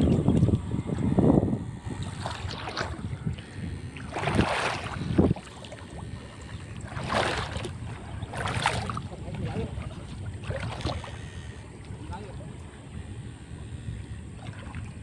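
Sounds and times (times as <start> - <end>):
water sloshing and splashing: 0.0 - 13.0, 14.2 - 15.0
wind rumble on microphone: 0.0 - 15.0.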